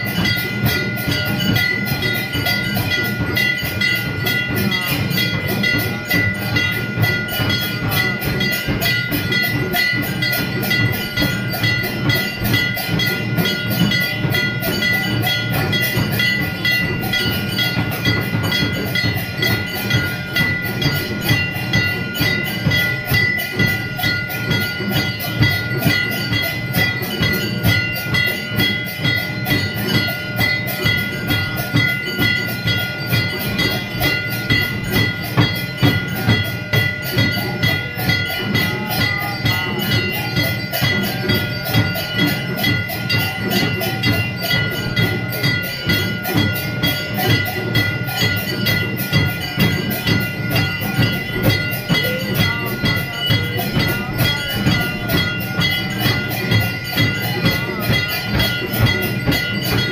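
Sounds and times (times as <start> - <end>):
brass bells ringing: 0.0 - 59.9
drums beating fast: 0.0 - 59.9.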